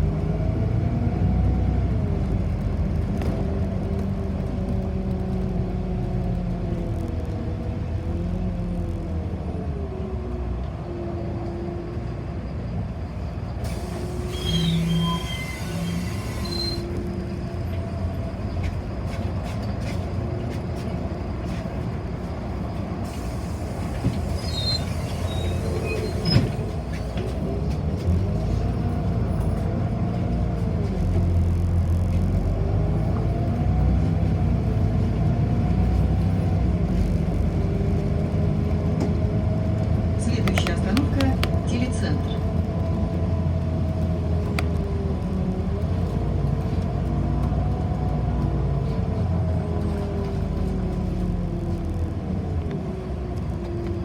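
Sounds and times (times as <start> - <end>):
bus engine rumble and whine: 0.0 - 54.0.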